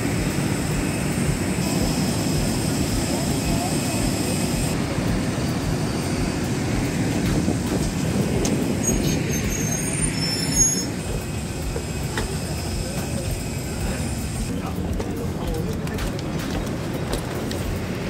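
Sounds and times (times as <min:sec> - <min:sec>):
bus engine low rumble: 0:00.0 - 0:18.0
high whine: 0:00.0 - 0:18.0.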